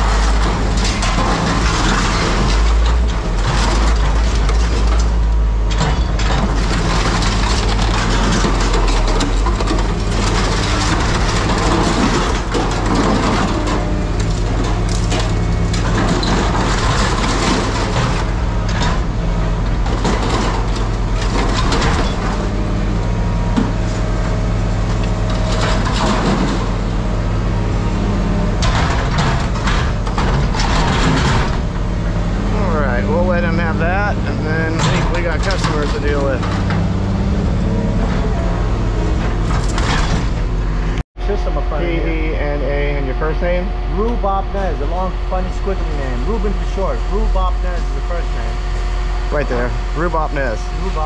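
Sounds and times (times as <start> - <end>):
scrap metal crunching and clattering: 0.0 - 41.9
heavy machinery engine hum: 0.0 - 51.0.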